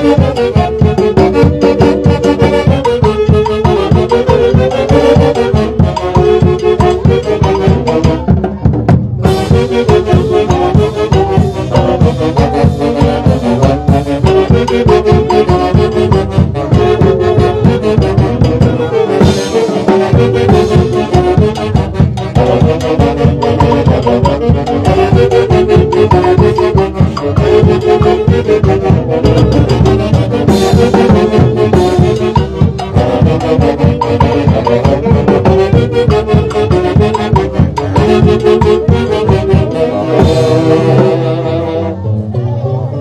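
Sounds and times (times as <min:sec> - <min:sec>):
steady drum beat: 0:00.0 - 0:41.5
brass band dance music: 0:00.0 - 0:43.0.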